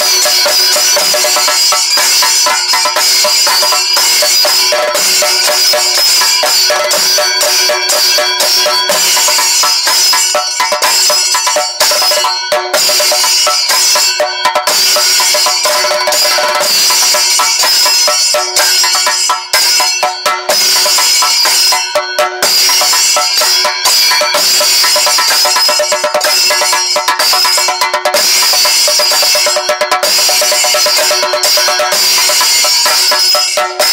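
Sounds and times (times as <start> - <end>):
drums beaten in fast rolls: 0.0 - 33.9
hand cymbals ringing: 0.0 - 33.9.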